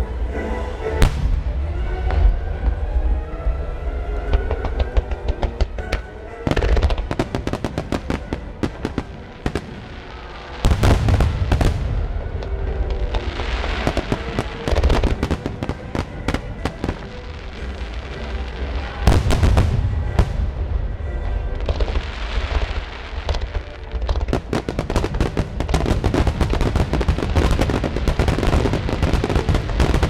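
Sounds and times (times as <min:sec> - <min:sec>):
music: 0:00.0 - 0:30.0
fireworks bursting and crackling: 0:01.0 - 0:02.8, 0:04.3 - 0:30.0
low fireworks booms: 0:01.0 - 0:30.0.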